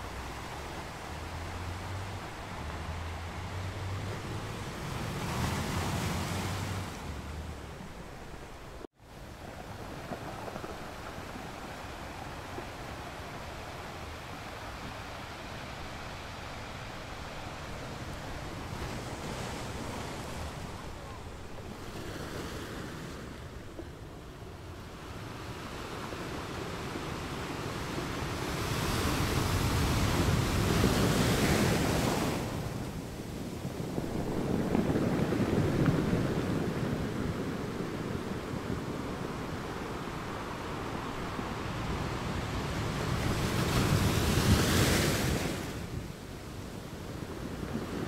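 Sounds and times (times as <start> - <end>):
ocean surf breaking on beach: 0.0 - 48.0.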